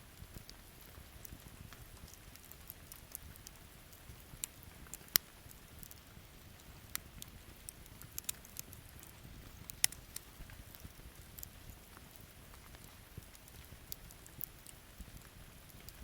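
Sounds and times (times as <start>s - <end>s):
campfire crackling: 0.0s - 16.0s
loud sharp fire snaps: 1.2s - 6.0s, 6.6s - 16.0s.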